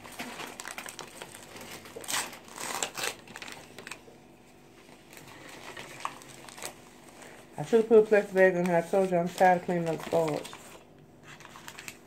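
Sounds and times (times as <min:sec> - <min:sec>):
paper towel rustling and crinkling: 0:00.0 - 0:12.0.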